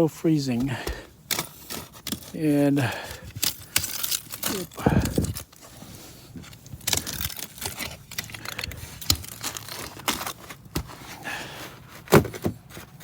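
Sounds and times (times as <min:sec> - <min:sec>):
faint crackly background: 0:00.0 - 0:13.0
crunching of frozen snow: 0:00.1 - 0:12.2.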